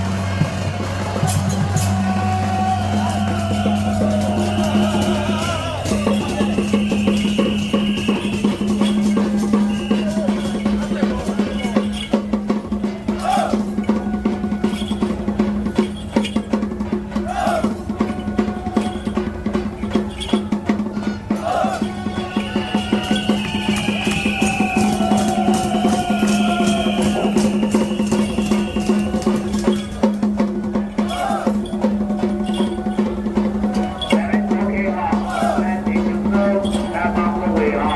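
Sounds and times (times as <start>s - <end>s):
rapid percussion: 0.0s - 37.9s.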